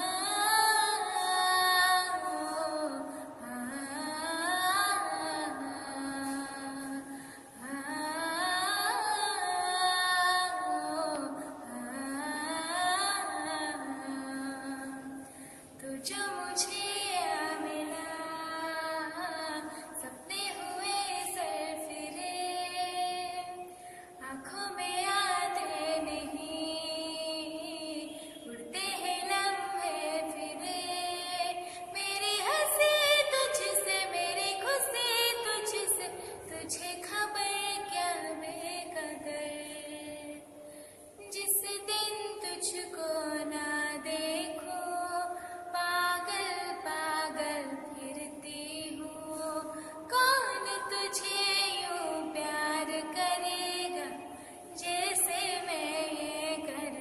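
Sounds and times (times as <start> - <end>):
girl singing: 0.0 - 40.6, 41.2 - 57.0.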